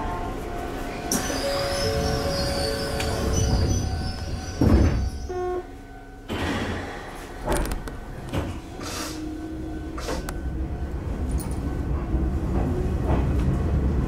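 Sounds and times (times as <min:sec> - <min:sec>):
train background noise: 0:00.0 - 0:14.0
train doors shutting with a thud: 0:00.9 - 0:14.0.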